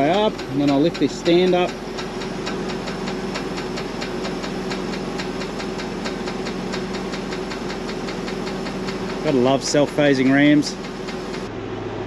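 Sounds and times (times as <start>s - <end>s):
fast even ticking: 0.0s - 11.5s
tractor engine running: 0.0s - 12.0s.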